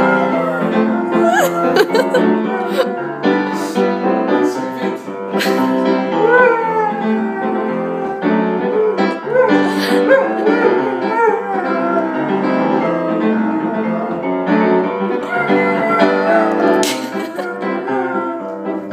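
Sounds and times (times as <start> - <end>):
dog howling: 0.0 - 3.3, 6.1 - 14.4, 15.2 - 18.9
upright piano playing chords: 0.0 - 18.9.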